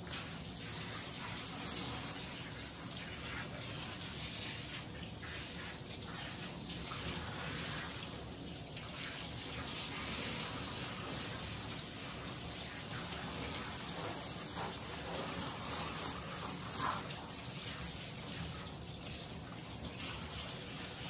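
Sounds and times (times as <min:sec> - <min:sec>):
water running in a tub: 0:00.0 - 0:21.0.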